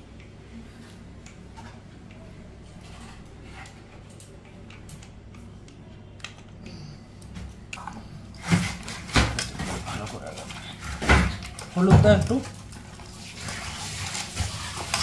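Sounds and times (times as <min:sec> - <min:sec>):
low steady hum: 0:00.0 - 0:14.2.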